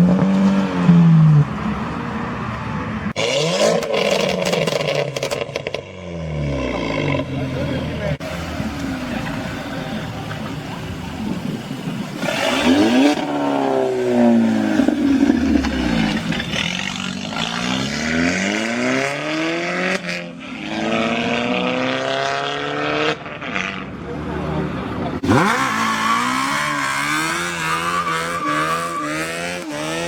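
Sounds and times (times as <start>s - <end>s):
car engines revving and accelerating: 0.0s - 30.0s.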